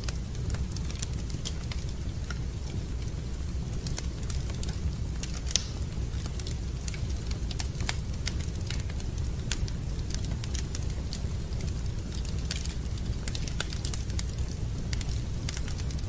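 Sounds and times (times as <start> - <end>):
fire popping and snapping: 0.0 - 16.0
low rumble of fire: 0.0 - 16.0.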